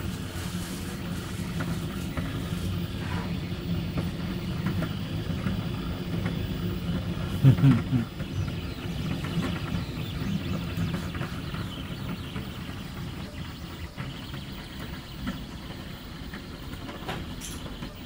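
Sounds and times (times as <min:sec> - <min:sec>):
cooling fan hum: 0:00.0 - 0:18.0
stepper motors whirring: 0:00.0 - 0:18.0.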